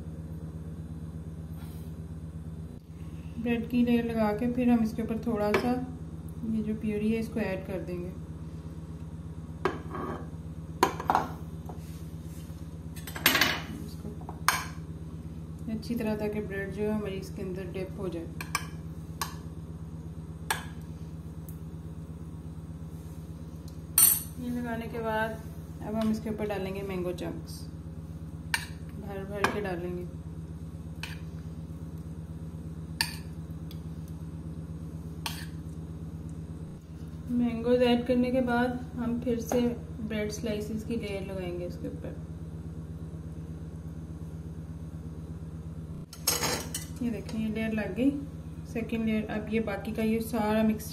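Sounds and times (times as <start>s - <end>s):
low hum: 0.0s - 50.9s.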